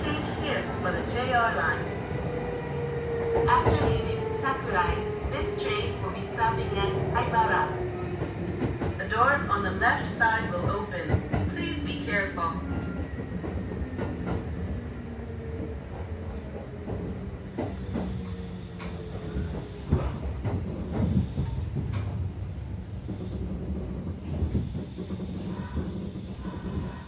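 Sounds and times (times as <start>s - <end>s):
train equipment humming: 0.0s - 27.0s.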